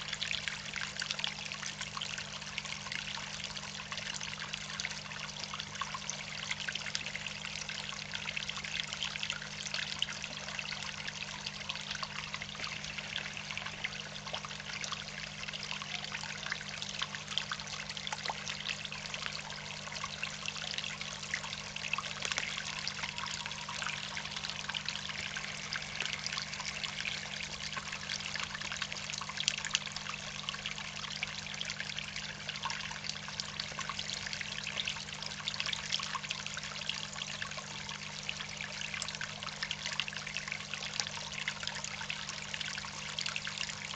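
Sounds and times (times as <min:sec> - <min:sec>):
water trickling into a pond: 0:00.0 - 0:43.9.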